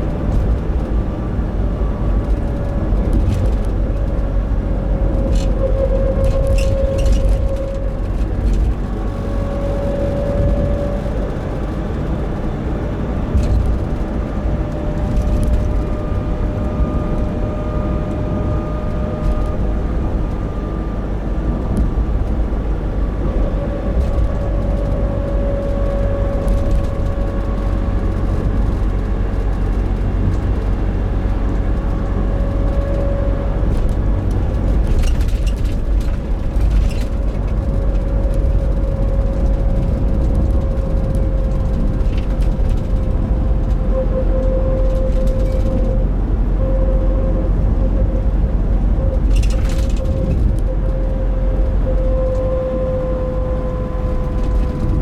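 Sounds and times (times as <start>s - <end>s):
droning hum: 0.0s - 55.0s
van road rumble: 0.0s - 55.0s.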